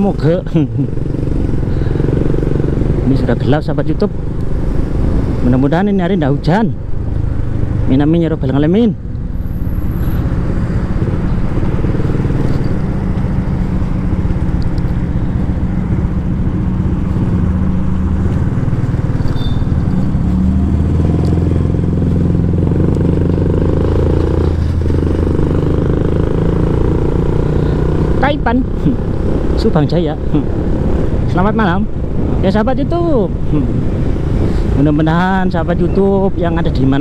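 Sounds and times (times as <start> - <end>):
motorcycle engine running: 0.0 - 37.0
road noise: 0.0 - 37.0.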